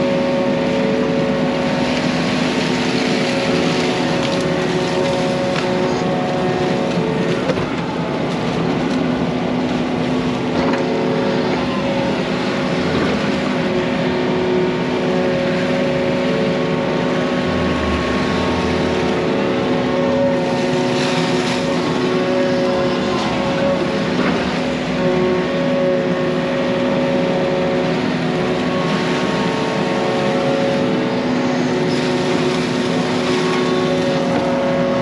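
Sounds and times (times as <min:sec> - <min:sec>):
excavator diesel engine running: 0:00.0 - 0:35.0
water flowing through dam breach: 0:00.1 - 0:35.0.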